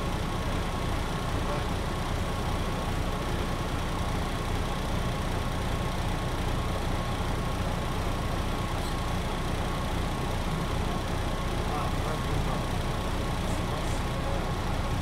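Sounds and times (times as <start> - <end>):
bus engine low drone: 0.0 - 15.0.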